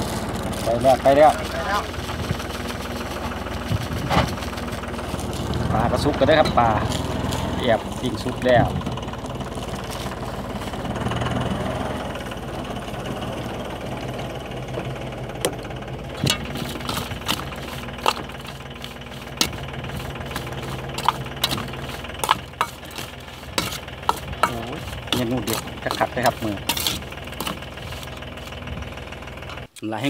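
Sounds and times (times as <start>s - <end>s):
engine idling hum: 0.0s - 30.0s.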